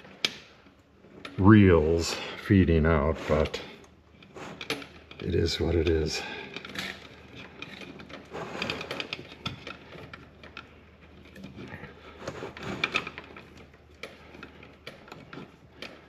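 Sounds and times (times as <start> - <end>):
wire scraping through conduit: 0.0 - 16.0.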